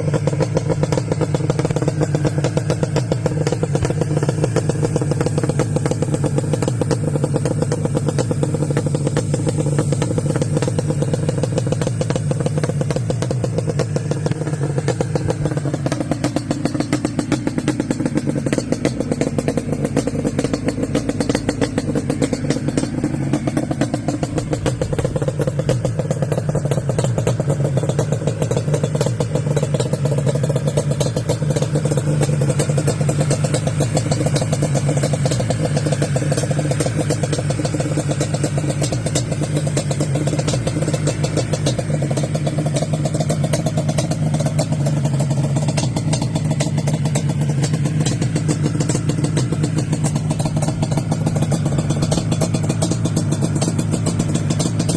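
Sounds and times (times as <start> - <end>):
two-stroke engine running: 0.0 - 54.9.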